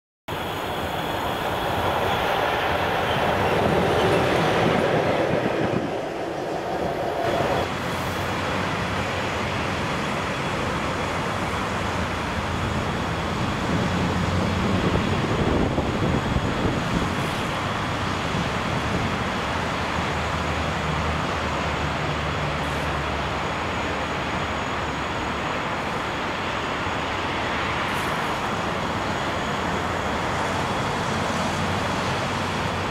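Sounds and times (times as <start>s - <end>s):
electric train rumbling: 0.3s - 32.9s.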